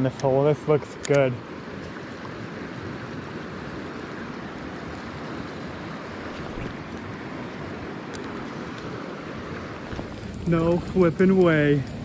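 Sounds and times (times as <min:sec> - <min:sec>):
river water rushing: 0:00.5 - 0:12.0.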